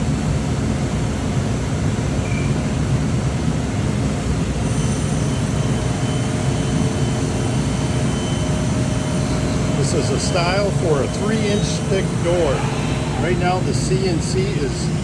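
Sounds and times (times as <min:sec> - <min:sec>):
high whine: 0:00.0 - 0:15.0
machine running steadily: 0:00.0 - 0:15.0.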